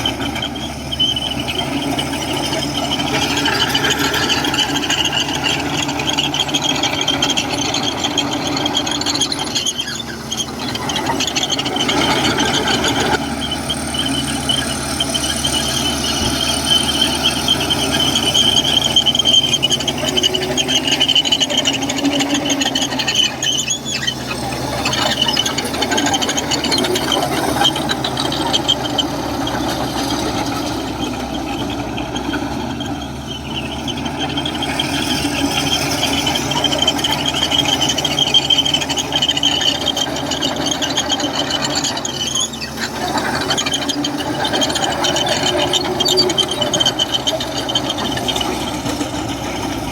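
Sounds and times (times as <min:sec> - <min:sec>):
bulldozer diesel engine running: 0:00.0 - 0:49.9
steel tracks squealing: 0:00.0 - 0:49.9.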